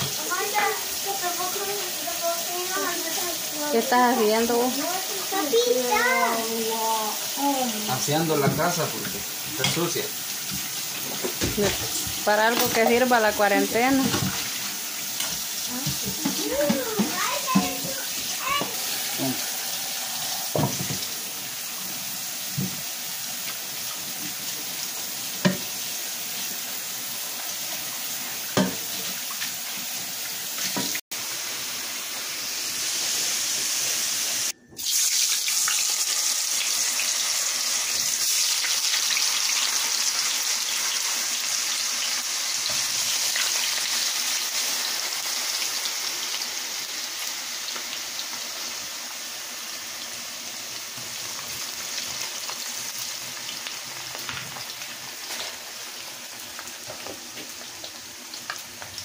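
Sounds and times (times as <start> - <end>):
potatoes frying in hot oil: 0.0 - 59.0.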